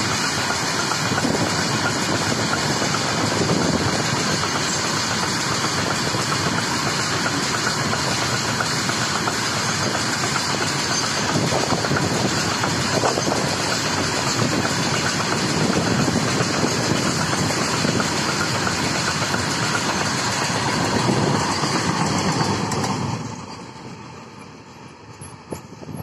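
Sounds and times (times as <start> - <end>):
freight wagons rumbling on rails: 0.0 - 26.0.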